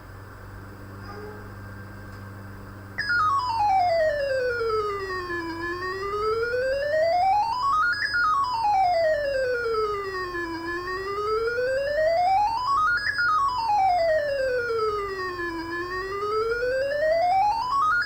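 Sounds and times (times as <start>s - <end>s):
low steady hum: 0.0s - 18.0s
electronic siren wail: 1.7s - 18.0s.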